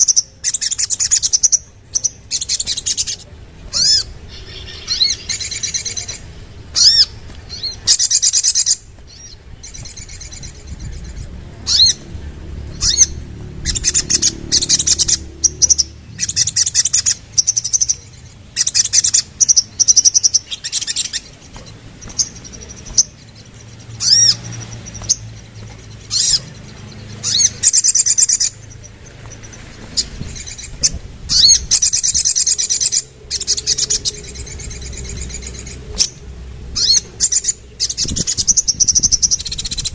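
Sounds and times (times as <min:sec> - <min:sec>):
bird high-pitched chirps: 0:00.0 - 0:39.9.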